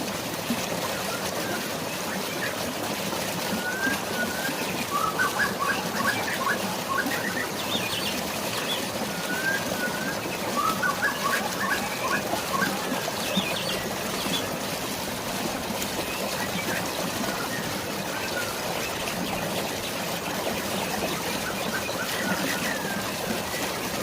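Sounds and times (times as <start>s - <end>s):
flowing water: 0.0s - 24.0s
rain: 0.0s - 24.0s
birds singing: 1.0s - 14.6s, 15.9s - 24.0s.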